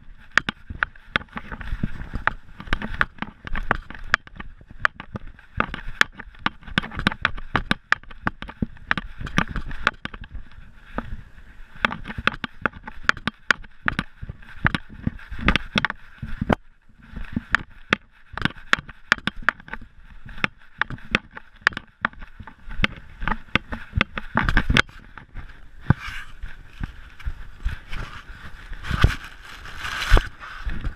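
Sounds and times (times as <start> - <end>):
camera rattling in its mount: 0.2 - 11.1, 11.7 - 30.9.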